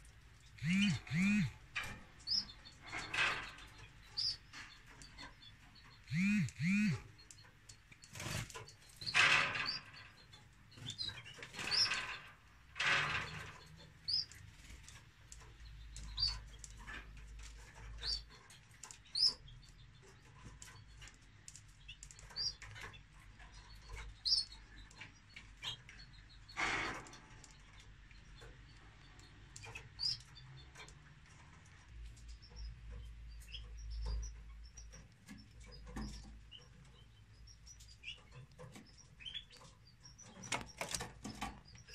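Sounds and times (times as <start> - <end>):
canaries chirping: 0.0 - 41.9.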